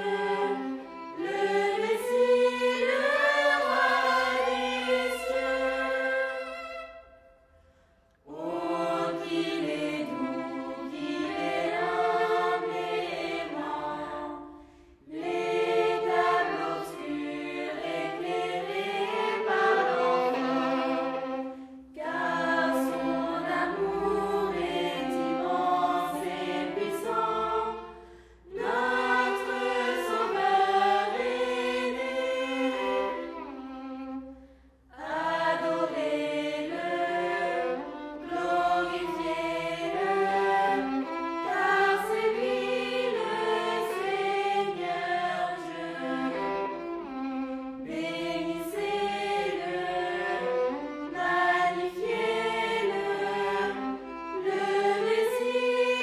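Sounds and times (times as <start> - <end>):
choir singing a hymn: 0.0 - 7.0, 8.2 - 34.3, 34.9 - 56.0
violin: 0.0 - 56.0.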